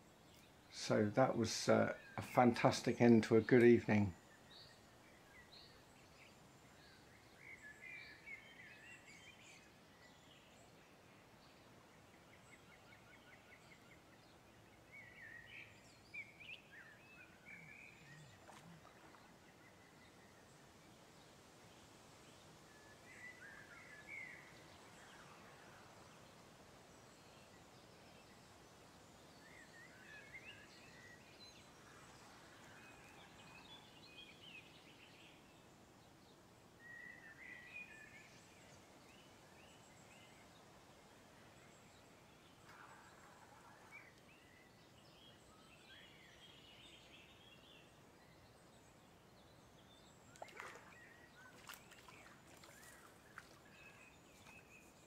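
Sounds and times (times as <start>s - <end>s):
background hiss: 0.0s - 55.0s
faint birdsong chirping: 0.0s - 55.0s.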